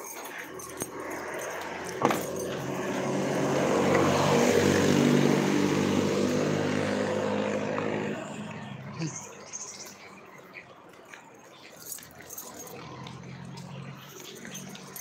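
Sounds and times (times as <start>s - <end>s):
diesel engine driving past: 0.5s - 10.2s, 12.6s - 15.0s.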